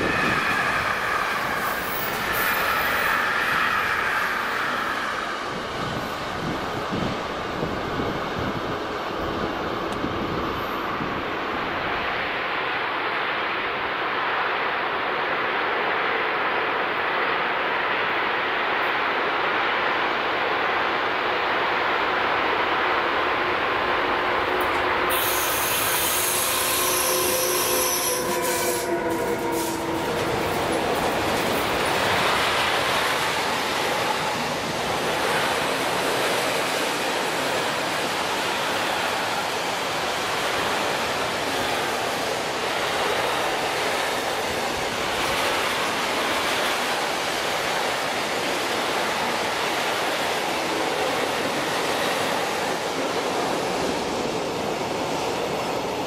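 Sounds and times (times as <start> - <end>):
electric locomotive whine: 0.0 - 56.0.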